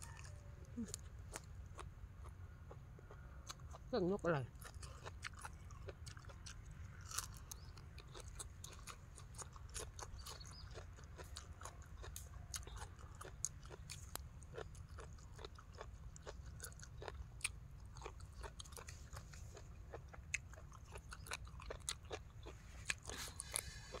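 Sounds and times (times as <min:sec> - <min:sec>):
low background hum: 0:00.0 - 0:24.0
person chewing crunchy vegetables: 0:00.0 - 0:24.0.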